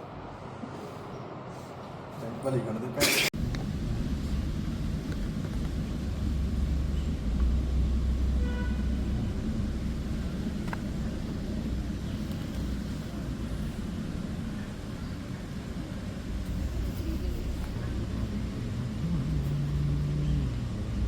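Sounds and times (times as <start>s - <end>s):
vehicle rumble: 3.3s - 21.0s.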